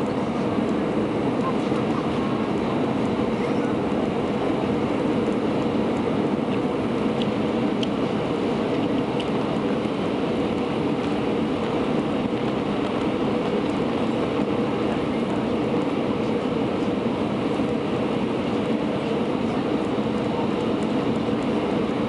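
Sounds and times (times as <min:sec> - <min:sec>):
airplane cabin engine rush: 0:00.0 - 0:22.0.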